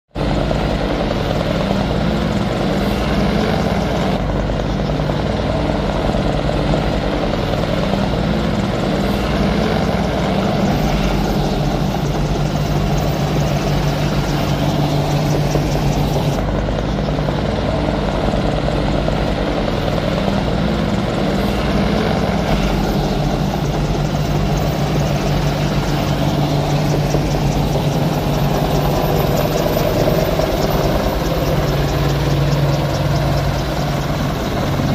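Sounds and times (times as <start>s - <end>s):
helicopter rotor beat: 0.1s - 34.9s
turbine engine noise: 0.1s - 34.9s.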